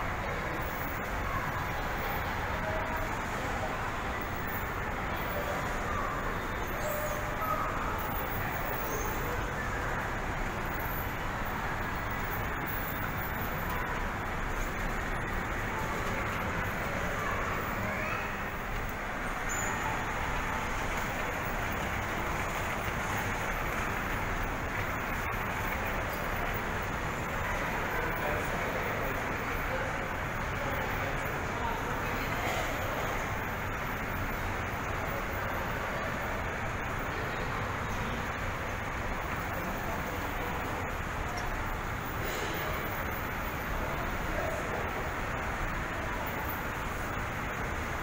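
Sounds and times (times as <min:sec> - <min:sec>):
faint distant voices: 0:00.0 - 0:48.0
shopping mall background noise: 0:00.0 - 0:48.0.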